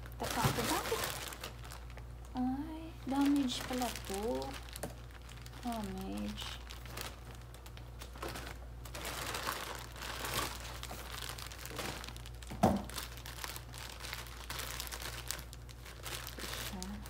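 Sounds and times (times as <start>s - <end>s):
plastic bags rustling: 0.0s - 17.0s.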